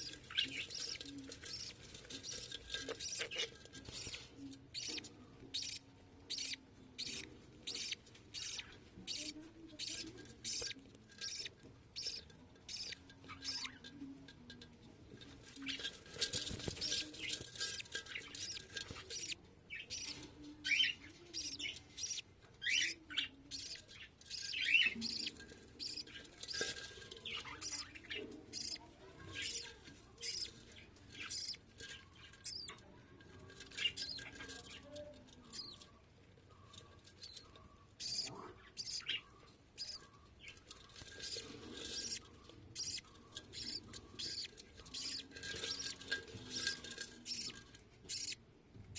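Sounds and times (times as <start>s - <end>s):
budgerigars chirping: 0.0s - 13.8s, 15.4s - 32.8s, 33.6s - 48.4s.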